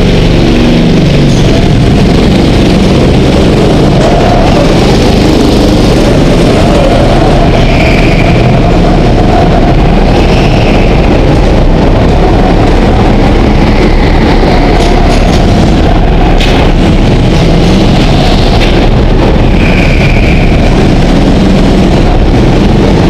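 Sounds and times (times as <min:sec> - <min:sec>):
go-kart engine running: 0:00.0 - 0:23.0.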